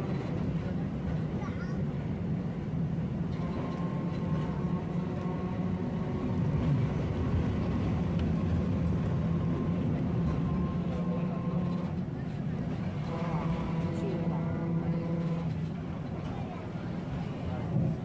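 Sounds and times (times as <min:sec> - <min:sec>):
tram rumbling: 0:00.0 - 0:18.0.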